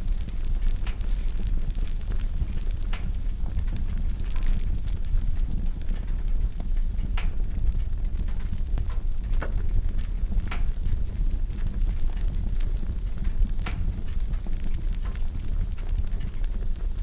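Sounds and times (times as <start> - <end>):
fire popping: 0.0 - 17.0
fire rumbling and crackling: 0.0 - 17.0.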